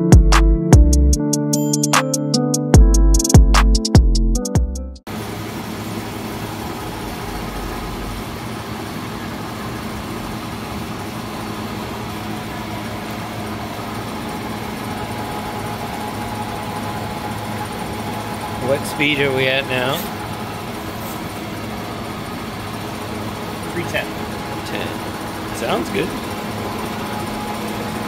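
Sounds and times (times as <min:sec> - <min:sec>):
lathe running hum: 0:05.1 - 0:28.0.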